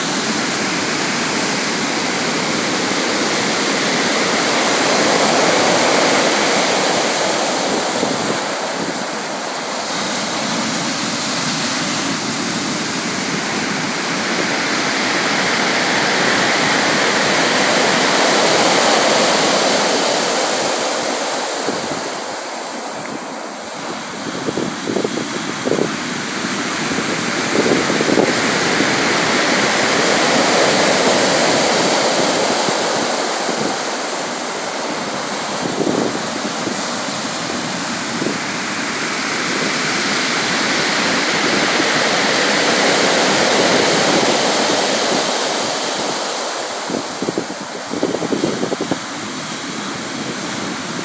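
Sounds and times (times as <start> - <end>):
sea waves breaking on shore: 0.0 - 51.0.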